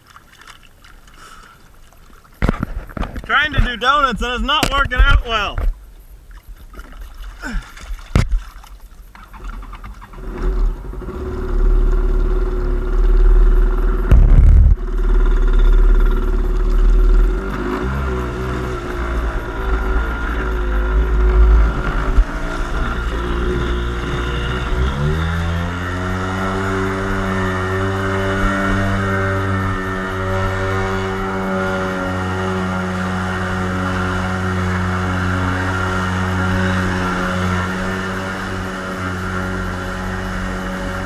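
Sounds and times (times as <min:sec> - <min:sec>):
small boat motor running: 0:06.3 - 0:41.0.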